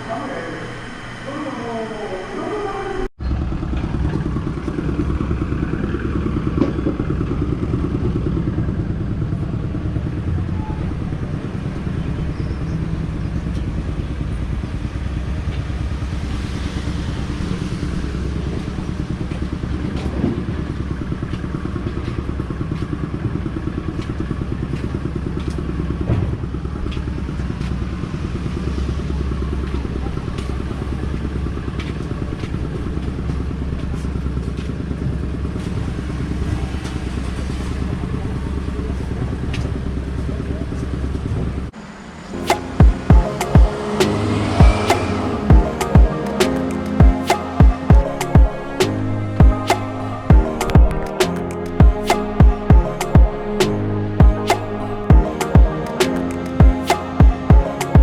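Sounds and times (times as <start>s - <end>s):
small engine rumbling: 3.2s - 58.0s.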